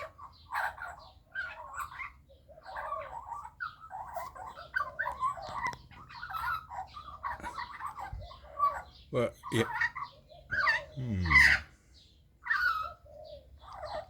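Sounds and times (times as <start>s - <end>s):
baby magpie babbling: 0.0s - 11.7s, 12.4s - 14.0s.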